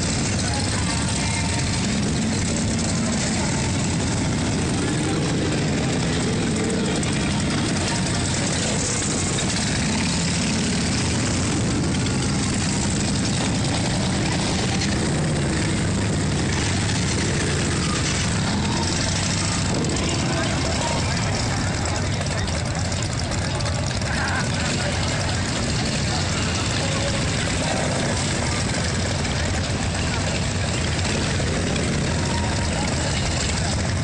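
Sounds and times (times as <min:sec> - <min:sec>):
motorcycles rumbling past: 0:00.0 - 0:34.0.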